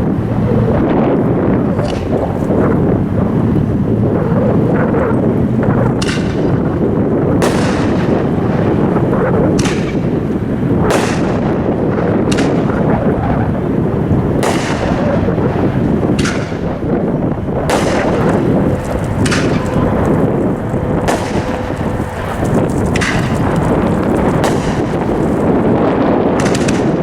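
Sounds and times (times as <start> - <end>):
fireworks sharp reports: 0.0 - 27.0
steady low rumble: 0.0 - 27.0.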